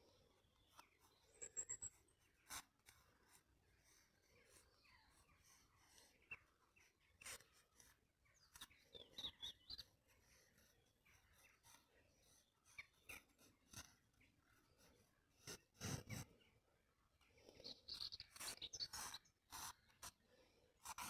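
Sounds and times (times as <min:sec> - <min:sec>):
pencil scratching on paper: 0:00.0 - 0:16.4, 0:17.5 - 0:21.0.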